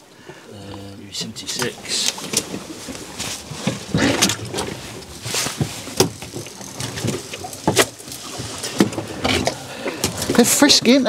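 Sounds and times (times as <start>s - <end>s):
knocks and thumps on boat deck: 1.5s - 11.0s.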